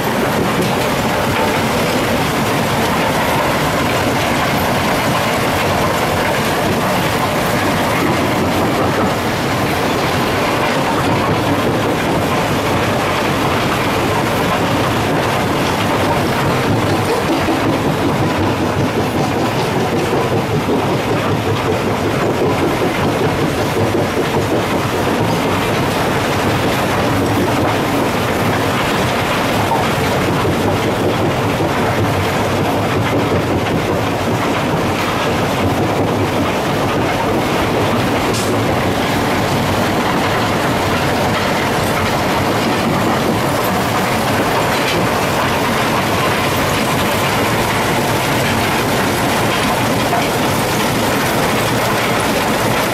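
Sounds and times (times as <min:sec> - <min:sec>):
conveyor machinery running: 0:00.0 - 0:52.9.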